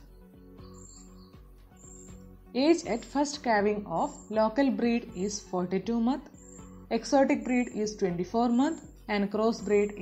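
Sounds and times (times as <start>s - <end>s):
soft background music: 0.0s - 10.0s.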